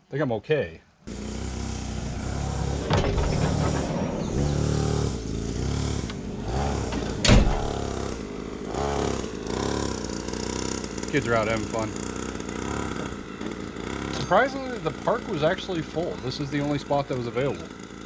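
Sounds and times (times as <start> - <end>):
small engine revving: 1.0 - 18.0.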